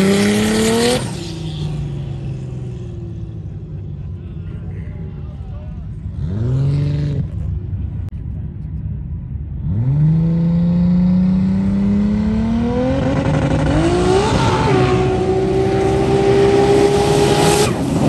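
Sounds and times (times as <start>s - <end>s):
off-road vehicle engine accelerating: 0.0s - 8.7s, 9.4s - 18.0s.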